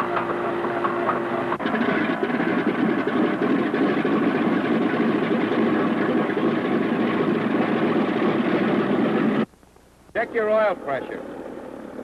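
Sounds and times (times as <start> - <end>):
radial aircraft engine running: 0.0 - 9.5, 10.2 - 12.0.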